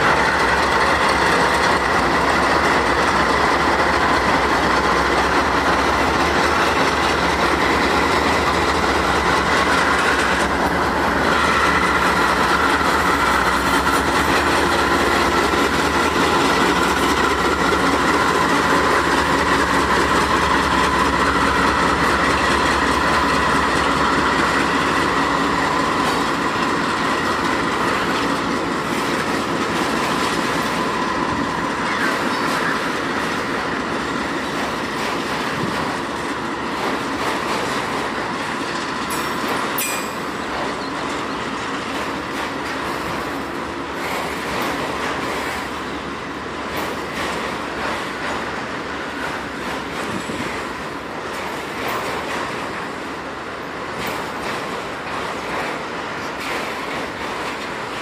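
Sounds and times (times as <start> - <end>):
wheels squealing on rails: 0.0 - 53.0
diesel locomotive engines under load: 0.0 - 58.0
freight cars rolling: 0.0 - 58.0.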